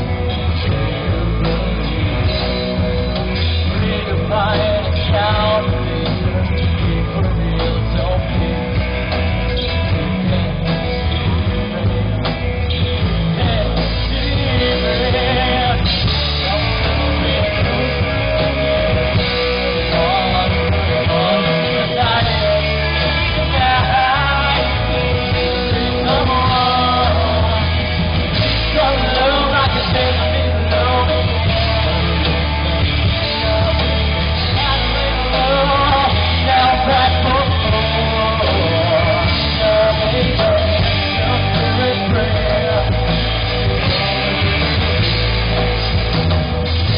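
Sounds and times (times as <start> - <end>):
live rock band playing: 0.0 - 46.9
person singing lead vocals: 0.0 - 46.9.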